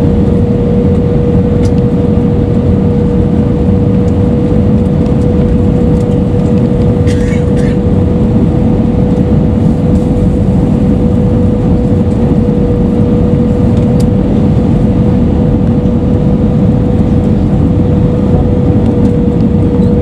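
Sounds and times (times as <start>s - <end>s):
aircraft cabin engine rush: 0.0s - 20.0s.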